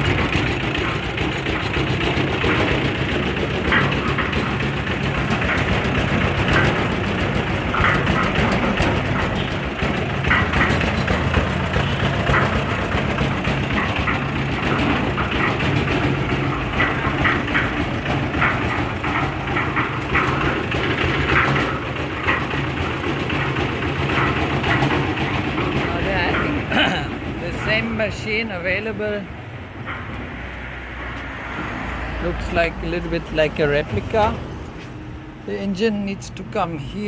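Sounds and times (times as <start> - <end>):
engine running low: 0.0 - 35.6.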